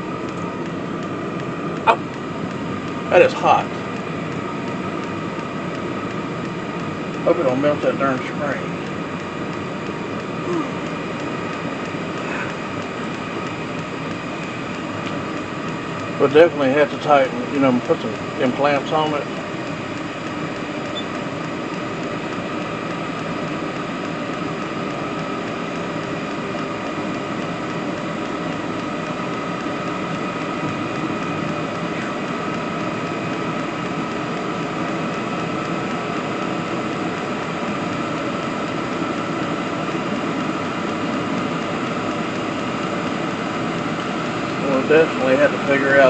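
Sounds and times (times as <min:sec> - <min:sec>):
diesel air heater running: 0:00.0 - 0:46.0
faint steady whine: 0:00.0 - 0:46.0.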